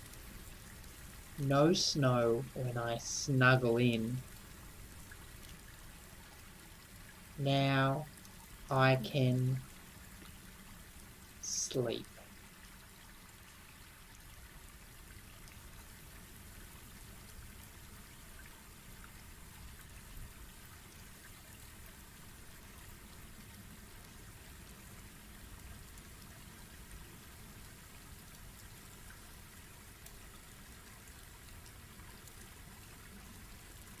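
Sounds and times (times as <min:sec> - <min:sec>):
rain-like background hiss: 0:00.0 - 0:34.0.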